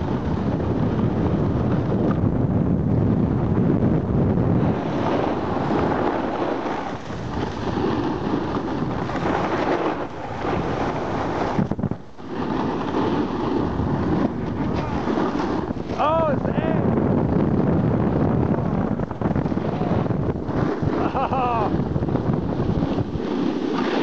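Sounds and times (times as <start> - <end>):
snowboards scraping on snow: 0.0 - 2.1, 4.4 - 24.0
wind buffeting microphone: 0.0 - 24.0.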